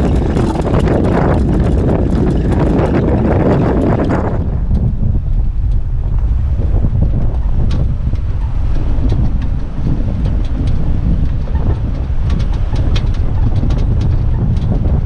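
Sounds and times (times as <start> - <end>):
vehicle engine rumble: 0.0 - 15.0
wind buffeting microphone: 0.0 - 15.0.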